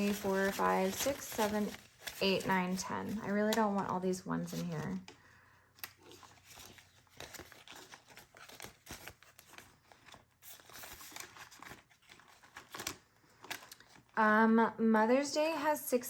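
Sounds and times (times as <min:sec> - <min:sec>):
paper banknotes rustling: 0:00.0 - 0:14.1.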